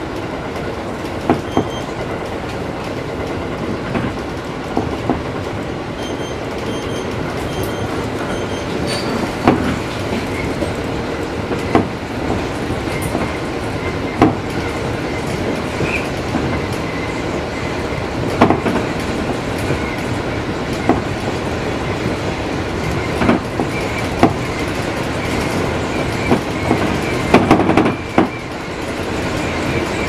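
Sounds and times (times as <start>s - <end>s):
train running rumble: 0.0s - 30.0s
wheels clicking over rail joints: 0.1s - 30.0s.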